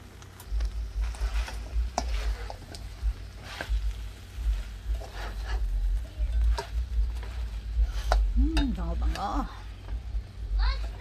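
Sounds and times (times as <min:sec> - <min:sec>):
utensil scraping metal pot: 0:00.6 - 0:11.0.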